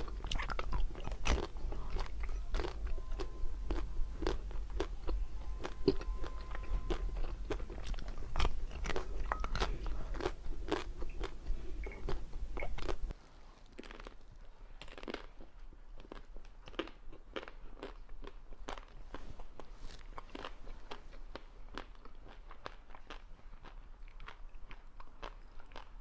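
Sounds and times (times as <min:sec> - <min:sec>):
crunching and chewing ice cream: 0:00.0 - 0:26.0.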